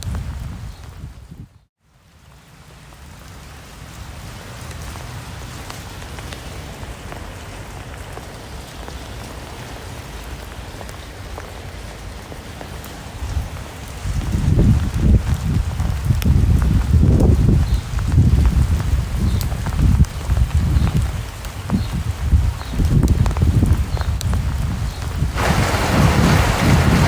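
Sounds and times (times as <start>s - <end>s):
rain falling: 1.8s - 27.0s.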